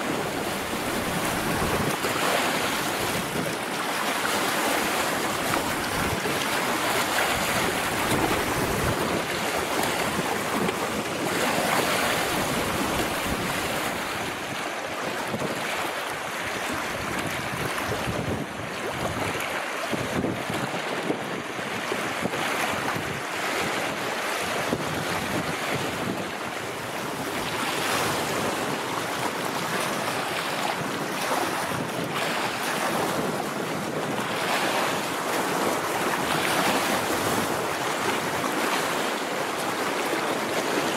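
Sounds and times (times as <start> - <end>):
wind buffeting microphone: 0.0 - 39.0
waves splashing against rocks: 0.0 - 40.9.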